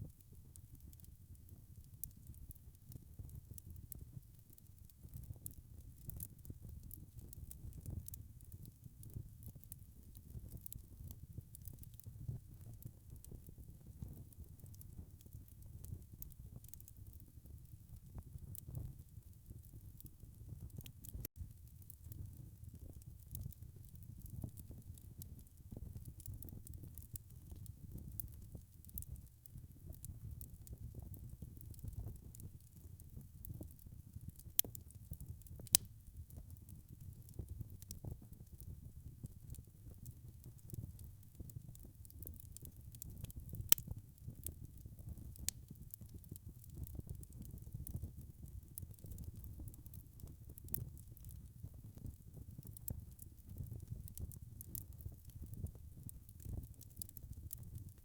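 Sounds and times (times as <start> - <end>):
low rumble of flames: 0.1 - 58.0
wood fire crackling: 0.1 - 58.0.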